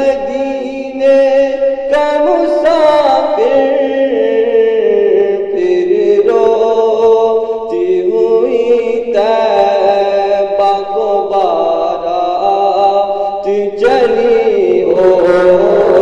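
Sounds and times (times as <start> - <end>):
voices singing devotional song: 0.0 - 16.0.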